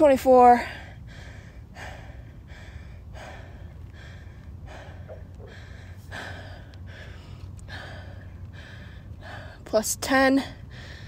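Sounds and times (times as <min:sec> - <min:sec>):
woman breathing hard: 0:00.6 - 0:09.6, 0:10.6 - 0:11.0.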